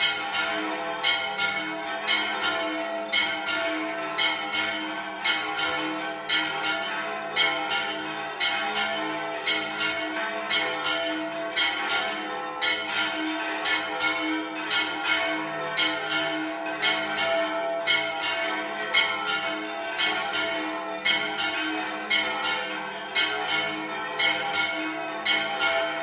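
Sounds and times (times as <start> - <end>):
church bells pealing: 0.0 - 26.0.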